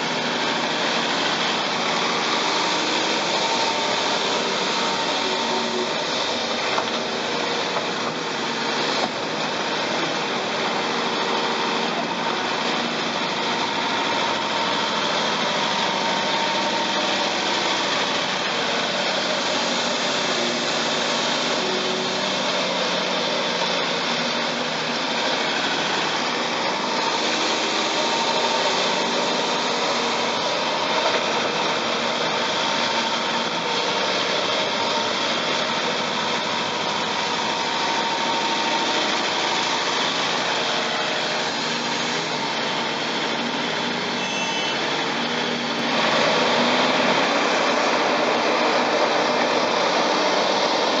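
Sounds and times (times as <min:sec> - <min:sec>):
continuous high whine: 0:00.0 - 0:51.0
diesel engines running: 0:00.0 - 0:51.0.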